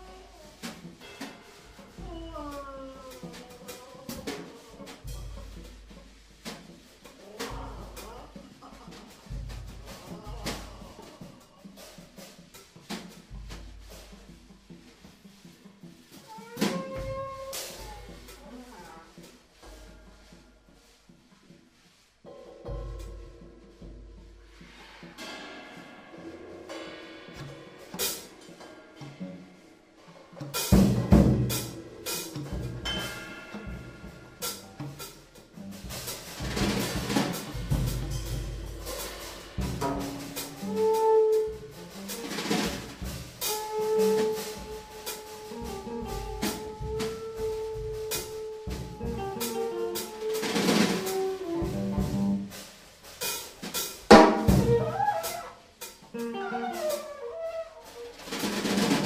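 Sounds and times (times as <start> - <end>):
jazz drum kit playing: 0.0 - 59.0.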